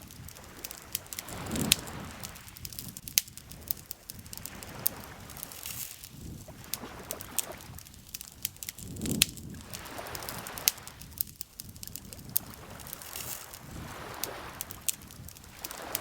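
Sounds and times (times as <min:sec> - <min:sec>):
campfire crackling: 0:00.0 - 0:16.0
lake water lapping: 0:00.0 - 0:16.0.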